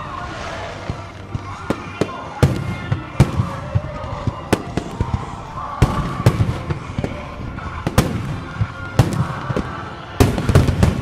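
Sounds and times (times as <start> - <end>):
fireworks bursting: 0.0 - 11.0
music from loudspeakers: 0.0 - 11.0.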